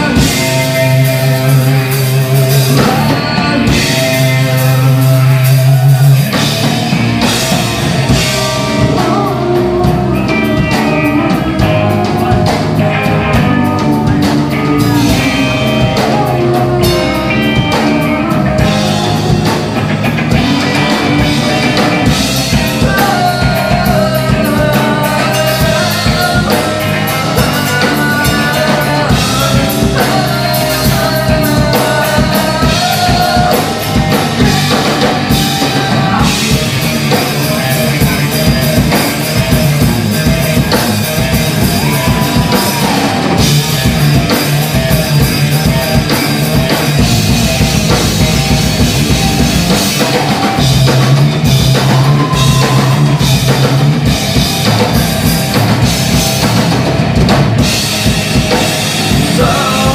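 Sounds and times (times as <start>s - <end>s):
man singing: 0.0s - 56.5s, 58.3s - 59.9s
drum kit beat: 0.0s - 59.9s
rock song with guitars: 0.0s - 59.9s.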